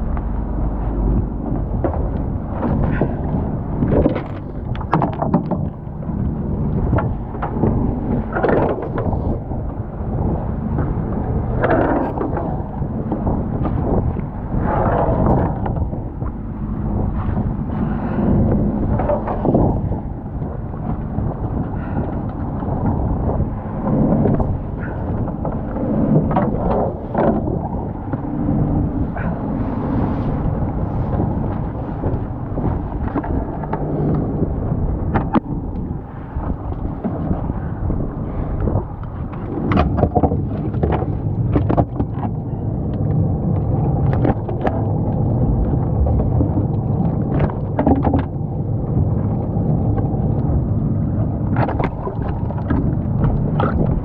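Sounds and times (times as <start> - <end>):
boat engine running: 0.0 - 54.0
wind buffeting microphone: 0.0 - 54.0.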